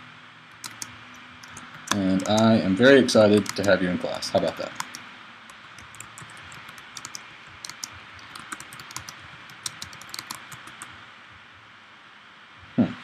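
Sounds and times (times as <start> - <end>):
computer keyboard typing: 0.6 - 11.0.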